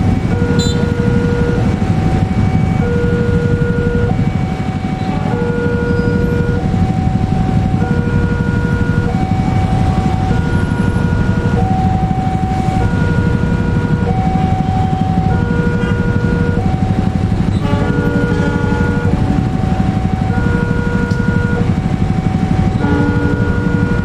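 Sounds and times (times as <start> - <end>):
locomotive engine rumbling: 0.0 - 24.0
two-tone level crossing alarm: 0.1 - 24.0.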